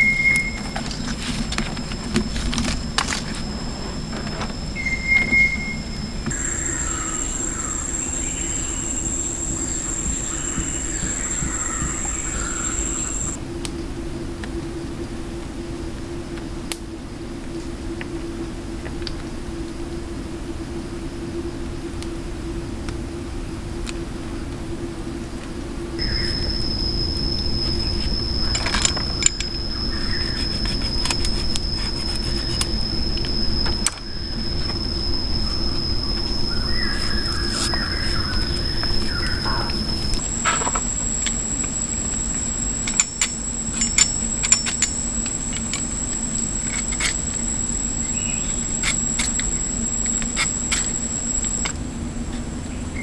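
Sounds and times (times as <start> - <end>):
cicadas droning: 0.0 - 53.0.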